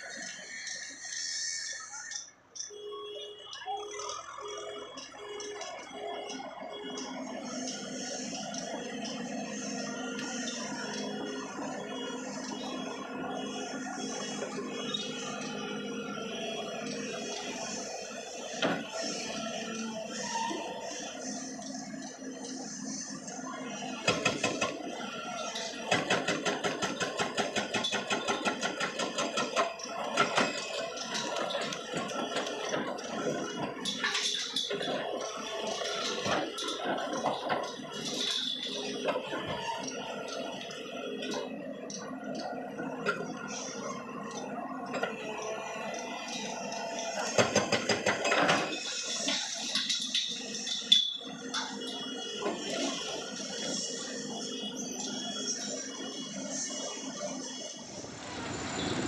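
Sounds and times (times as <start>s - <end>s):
excavator engine clattering: 3.5s - 56.8s.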